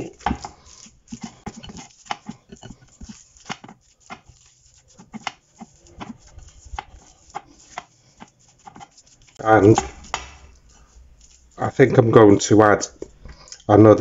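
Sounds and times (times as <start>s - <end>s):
hands squishing minced meat: 0.0s - 14.0s.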